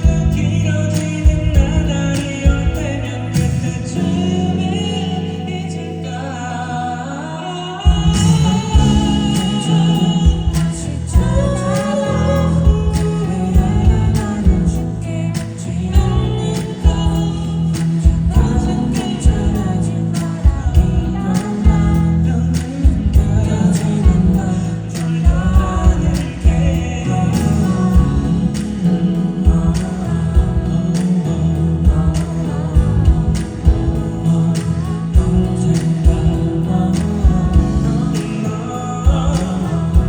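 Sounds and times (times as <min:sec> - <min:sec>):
heavy bass and drums: 0:00.0 - 0:04.6, 0:07.9 - 0:40.0
live pop band: 0:00.0 - 0:40.0
person singing: 0:00.0 - 0:40.0.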